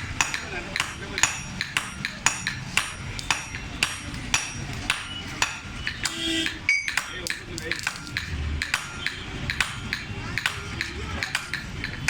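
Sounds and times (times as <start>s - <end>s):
hammer striking iron on anvil: 0.0s - 12.0s.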